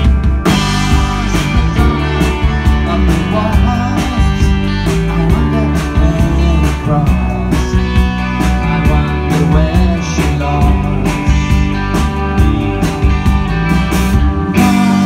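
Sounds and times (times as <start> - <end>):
drum kit hits: 0.0 - 15.0
electric guitar: 0.0 - 15.0.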